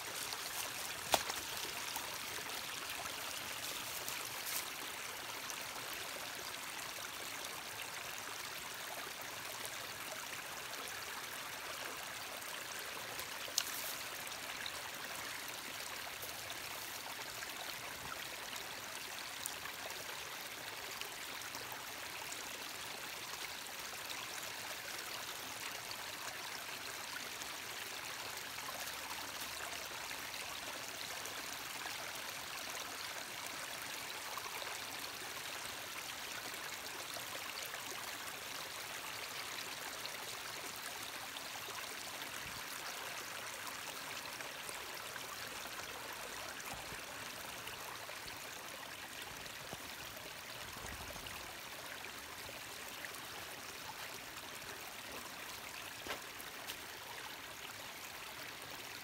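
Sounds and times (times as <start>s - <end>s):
brook babbling: 0.0s - 59.0s.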